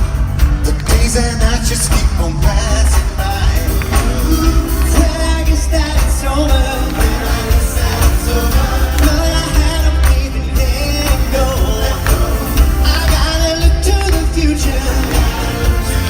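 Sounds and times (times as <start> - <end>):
band with steady bass line: 0.0 - 16.0
vocal group singing pop music: 0.0 - 16.0.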